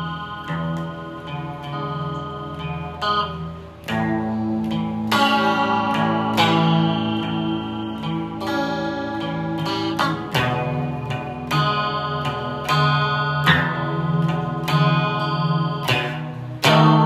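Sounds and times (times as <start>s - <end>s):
guitar chords plucked and strummed: 0.0s - 17.0s.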